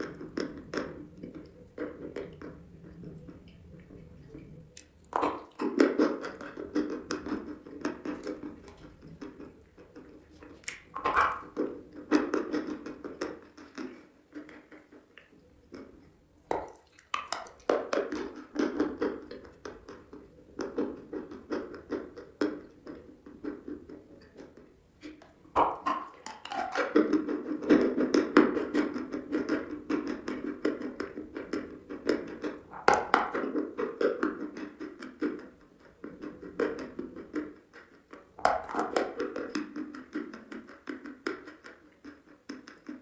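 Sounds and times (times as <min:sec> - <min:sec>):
chewing chalk crunching: 0:00.0 - 0:43.0.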